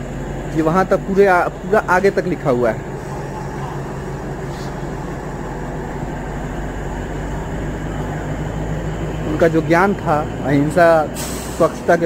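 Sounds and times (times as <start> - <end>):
low steady hum: 0.0 - 11.0
machinery droning: 0.0 - 12.0.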